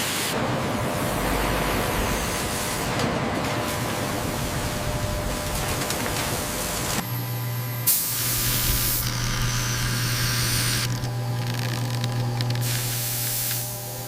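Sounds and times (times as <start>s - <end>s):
machine hiss and hum: 0.0s - 14.0s.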